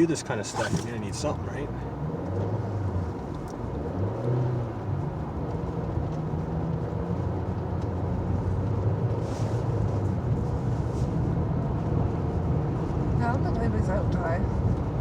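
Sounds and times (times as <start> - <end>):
car engine and tyres droning: 0.0 - 15.0.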